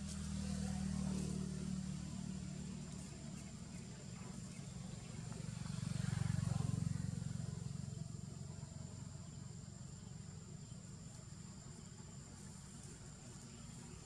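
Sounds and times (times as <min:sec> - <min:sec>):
passing vehicle engine rumble: 0:00.0 - 0:14.0.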